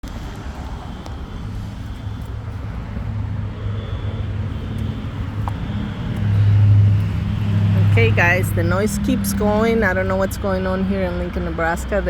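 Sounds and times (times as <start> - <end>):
low droning hum: 0.1 - 12.0.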